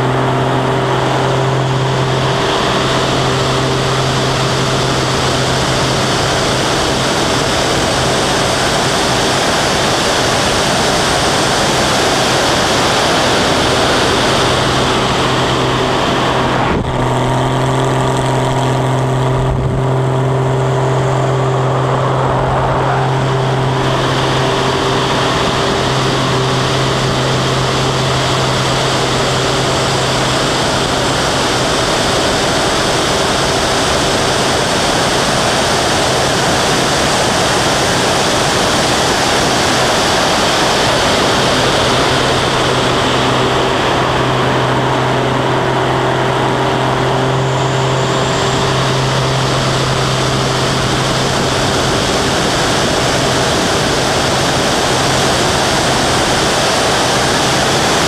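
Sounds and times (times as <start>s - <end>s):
propeller plane engine drone: 0.0s - 58.0s
wind rush: 0.0s - 58.0s.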